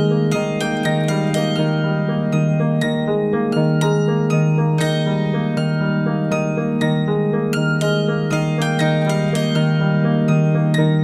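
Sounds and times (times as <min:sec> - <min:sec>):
gentle keyboard melody: 0:00.0 - 0:11.0.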